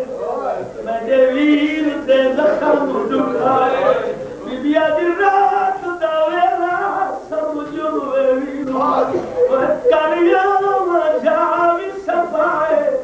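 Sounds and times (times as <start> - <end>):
man singing into a microphone: 0.8 - 13.0.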